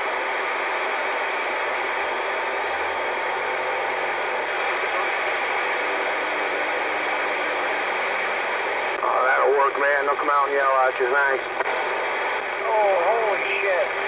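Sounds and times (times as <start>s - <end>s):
radio static: 0.0s - 14.0s.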